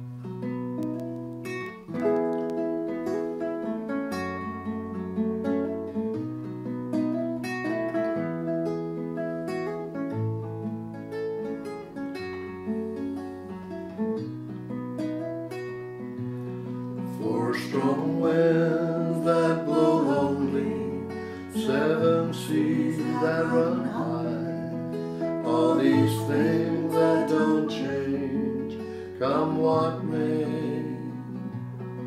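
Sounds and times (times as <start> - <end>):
nylon-string acoustic guitar: 0.0 - 32.0.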